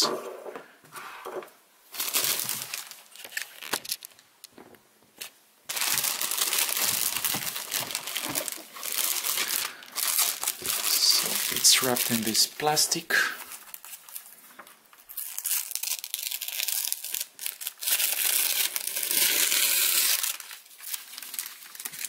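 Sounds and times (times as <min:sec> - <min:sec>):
plastic bag crinkling: 0:01.9 - 0:04.3, 0:05.2 - 0:22.0.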